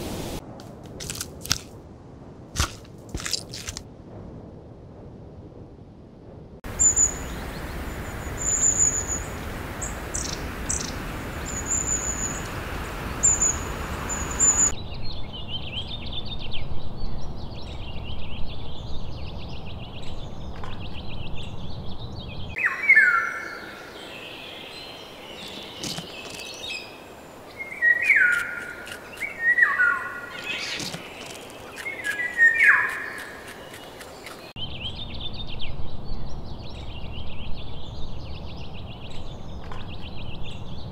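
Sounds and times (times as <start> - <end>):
outdoor background noise: 0.0 - 40.9
birds chirping: 6.7 - 16.5, 17.7 - 40.9
birds twittering rapidly: 6.7 - 40.9.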